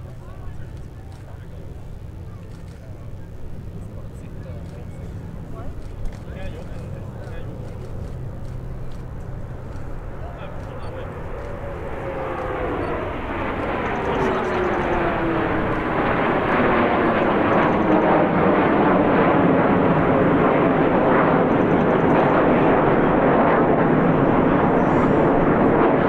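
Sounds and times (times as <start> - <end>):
jet engines whining: 0.0 - 26.0.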